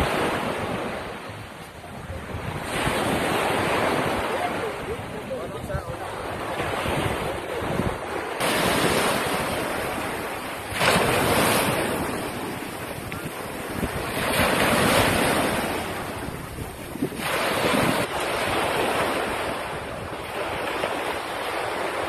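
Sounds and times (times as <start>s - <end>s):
sea waves breaking on a beach: 0.0s - 22.0s
wind buffeting the microphone: 0.0s - 22.0s.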